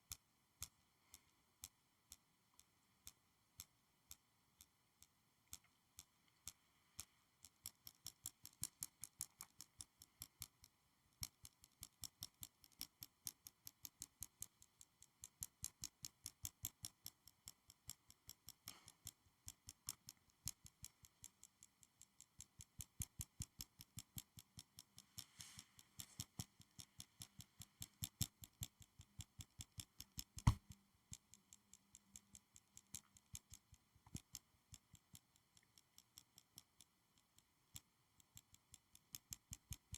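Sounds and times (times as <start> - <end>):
fast clicking and tapping: 7.5 - 39.9.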